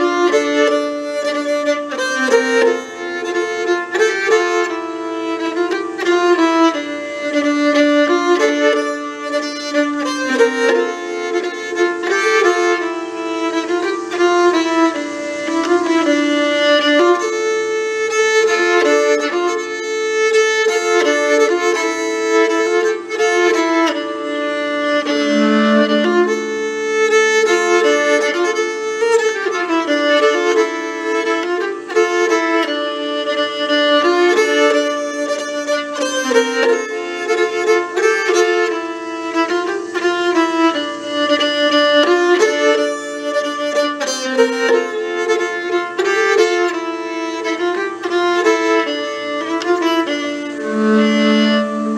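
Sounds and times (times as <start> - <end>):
bowed folk melody: 0.0 - 51.9
steady lower drone tone: 0.0 - 51.9.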